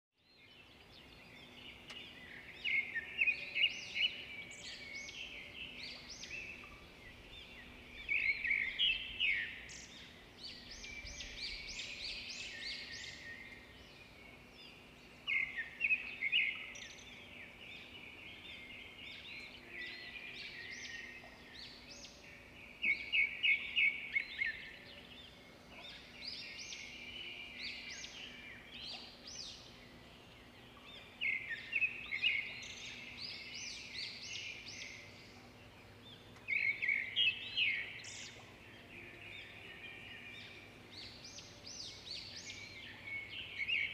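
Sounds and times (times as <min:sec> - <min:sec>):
songbirds chirping: 0:00.2 - 0:43.9.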